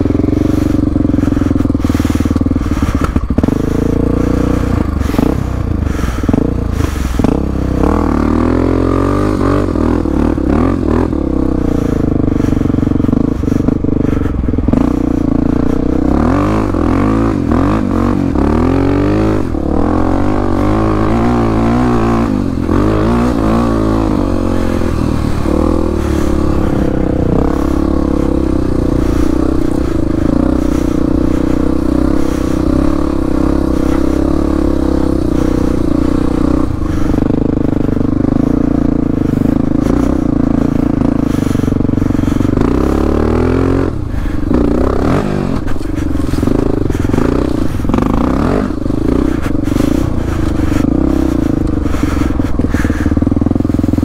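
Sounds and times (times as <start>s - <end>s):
clatter and scraping: 0.0s - 54.0s
motorcycle engine running: 0.0s - 54.0s.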